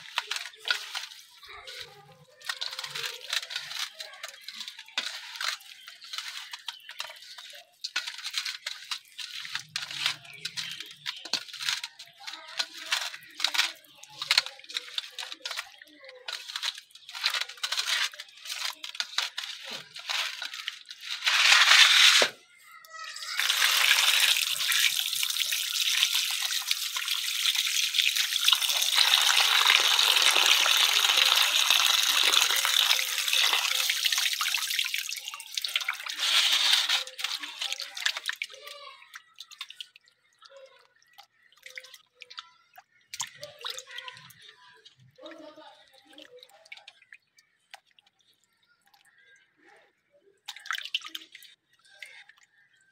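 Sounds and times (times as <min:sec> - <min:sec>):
hands sloshing fish pieces: 0:00.0 - 0:22.3, 0:23.4 - 0:45.0
water pouring into steel bowl: 0:00.0 - 0:22.3, 0:23.1 - 0:49.0.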